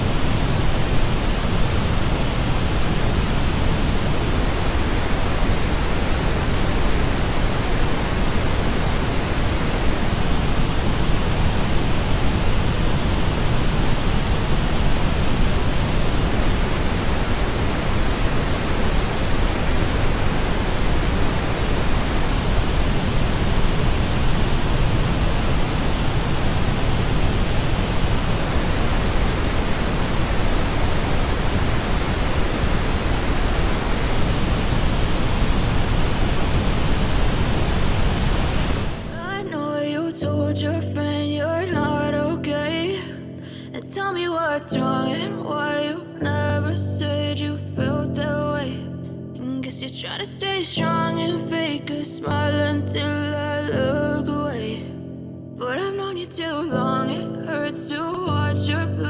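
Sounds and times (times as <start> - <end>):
pink noise test signal: 0.0 - 47.9.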